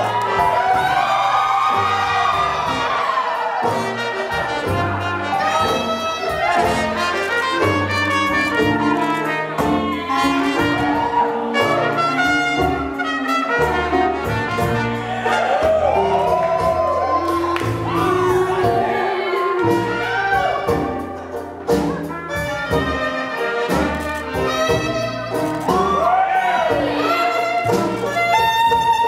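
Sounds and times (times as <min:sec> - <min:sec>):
swing jazz band playing: 0:00.0 - 0:29.0.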